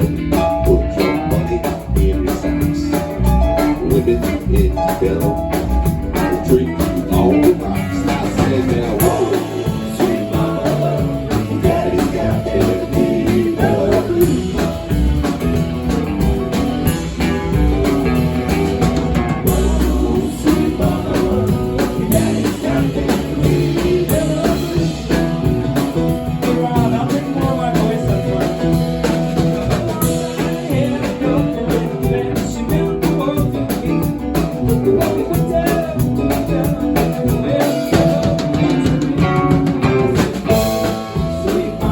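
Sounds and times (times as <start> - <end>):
person singing: 0.0 - 16.2, 16.8 - 41.9
electric guitar: 0.0 - 41.9
live blues-rock band: 0.0 - 41.9.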